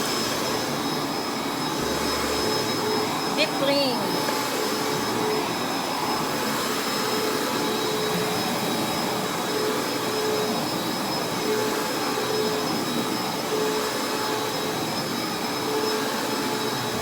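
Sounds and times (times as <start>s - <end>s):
carpet washing vacuum running: 0.0s - 17.0s.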